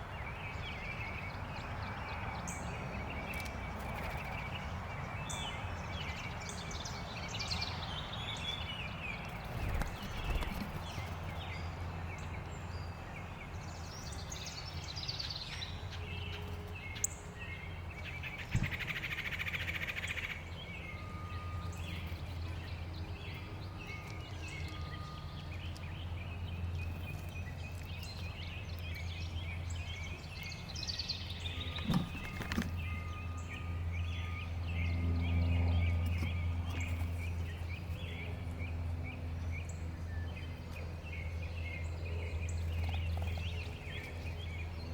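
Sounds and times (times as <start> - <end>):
songbirds chirping: 0.0 - 44.9.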